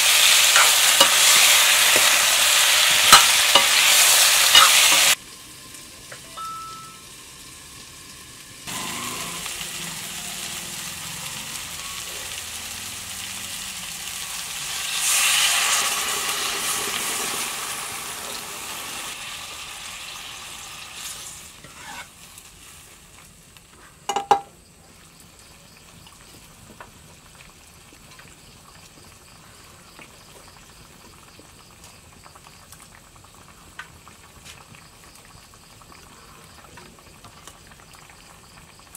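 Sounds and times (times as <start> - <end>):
curry sizzling in a pan: 0.0 - 38.9.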